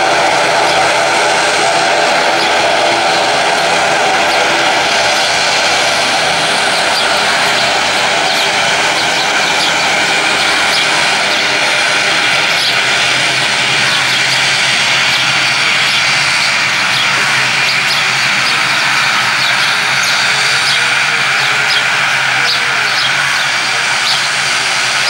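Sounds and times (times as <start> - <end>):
turboprop engines running: 0.0 - 25.0.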